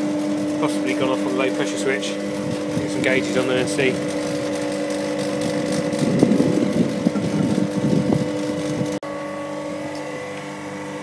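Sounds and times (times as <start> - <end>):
refrigeration machinery hum: 0.0 - 11.0.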